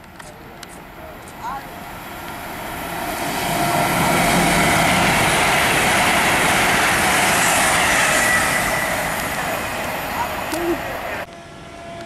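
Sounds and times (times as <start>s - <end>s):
train wheels rushing on rails: 0.0s - 12.0s.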